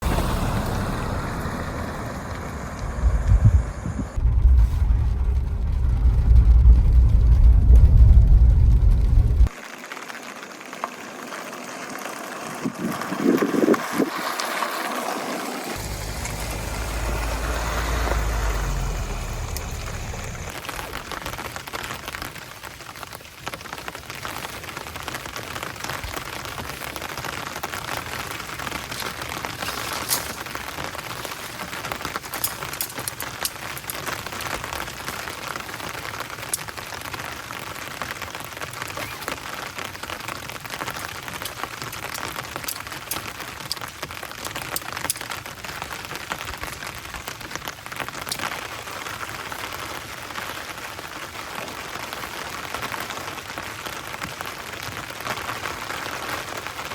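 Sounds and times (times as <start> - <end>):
heavy rain falling: 0.0 - 56.9
raindrops tapping a surface: 4.2 - 56.9.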